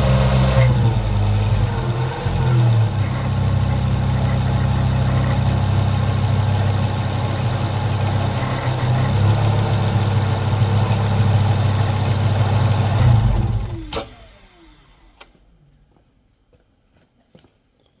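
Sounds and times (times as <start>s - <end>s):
car engine running: 0.0s - 14.5s
engine winding down: 0.0s - 15.2s.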